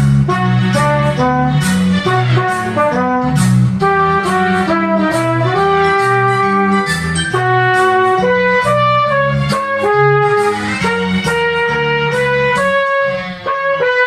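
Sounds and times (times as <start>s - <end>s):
backing track bass and drums: 0.0s - 14.0s
cornet melody: 0.0s - 14.0s.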